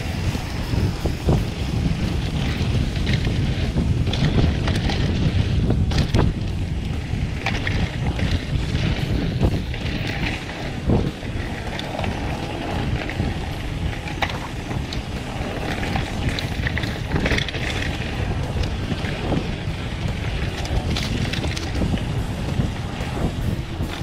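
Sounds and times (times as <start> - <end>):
bike clicks and rattles: 0.0 - 24.0
tyres rolling through dirt and leaves: 0.0 - 24.0
wind buffeting microphone: 0.0 - 24.0.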